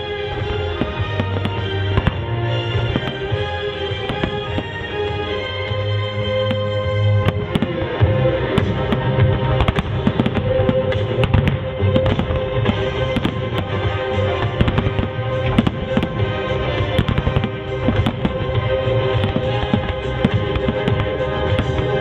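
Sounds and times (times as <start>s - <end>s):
fireworks banging: 0.0s - 22.0s
loud music: 0.0s - 22.0s.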